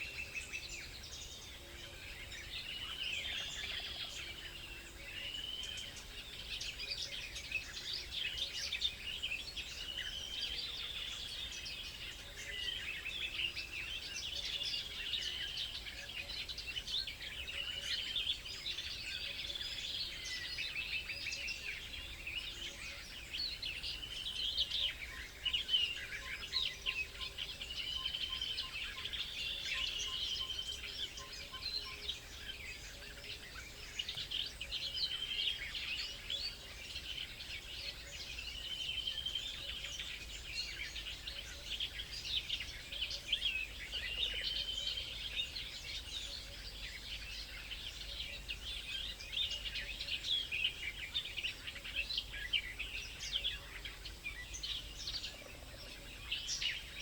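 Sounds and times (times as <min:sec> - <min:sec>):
songbirds chirping and calling: 0:00.0 - 0:57.0.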